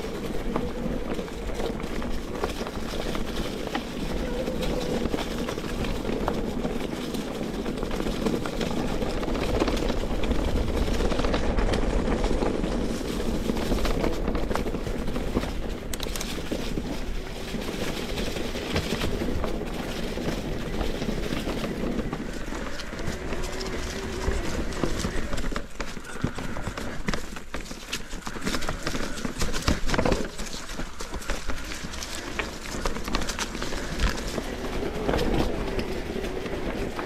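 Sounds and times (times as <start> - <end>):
bike clicks and rattles: 0.0 - 37.0
bike tyres rumbling on trail: 0.0 - 37.0
wind noise: 0.0 - 37.0.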